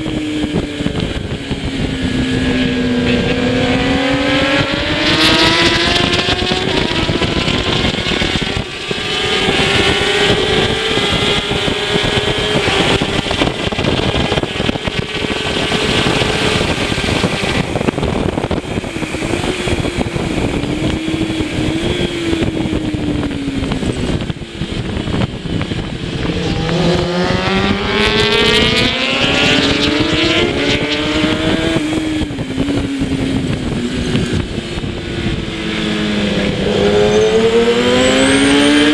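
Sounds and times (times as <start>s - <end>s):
motorcycle engine at high revs: 0.0s - 38.9s
wind rush: 0.0s - 38.9s.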